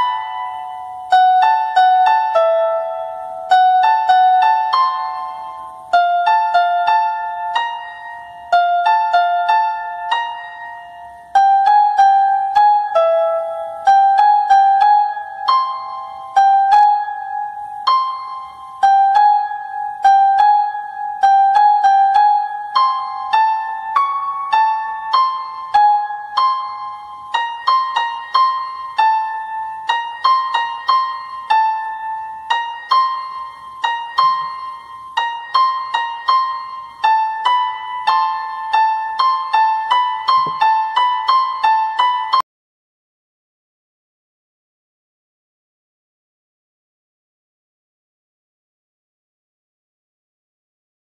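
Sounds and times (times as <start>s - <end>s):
plucked keyboard melody: 0.0s - 42.4s.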